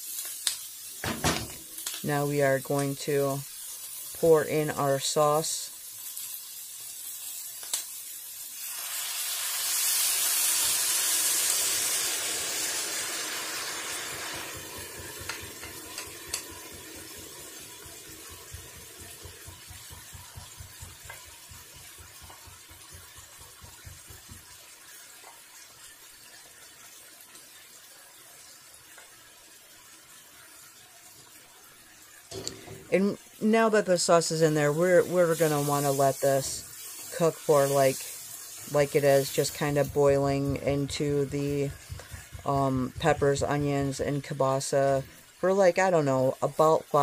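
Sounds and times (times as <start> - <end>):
sauce sizzling in hot pan: 0.0 - 47.0.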